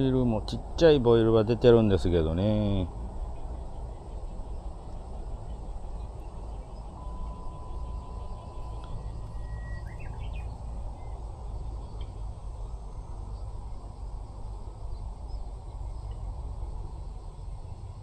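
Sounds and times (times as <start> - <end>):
faint bird chirps: 2.6 - 18.0.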